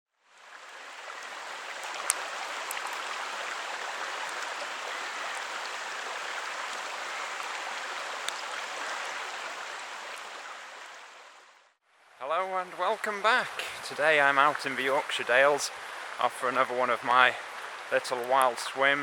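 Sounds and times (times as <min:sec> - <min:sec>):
rushing water: 0:00.2 - 0:19.0.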